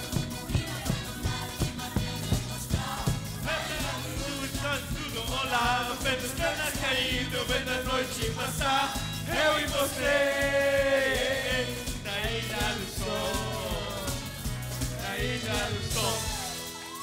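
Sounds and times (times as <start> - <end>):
backing track with bass line: 0.0 - 16.8
men singing through pa: 0.1 - 16.6.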